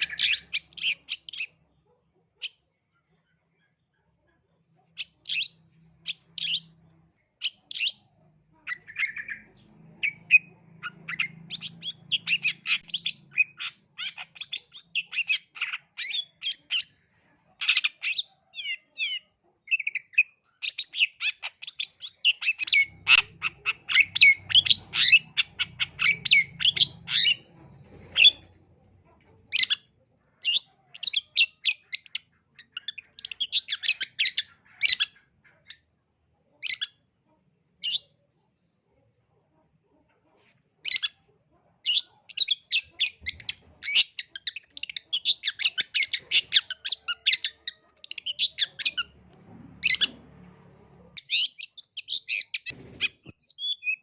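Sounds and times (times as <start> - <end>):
bird singing chattering song: 0.0 - 1.7, 4.9 - 28.6, 29.4 - 37.2, 40.8 - 50.3, 51.2 - 54.0.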